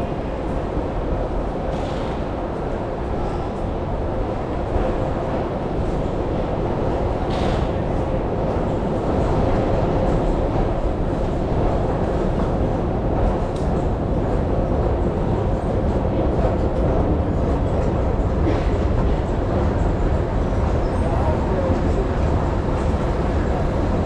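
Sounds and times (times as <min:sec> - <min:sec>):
metro train rumbling: 0:00.0 - 0:24.0.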